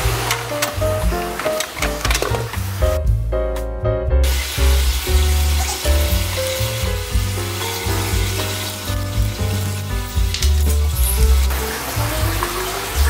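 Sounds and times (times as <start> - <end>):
background music with bass: 0.0 - 13.0.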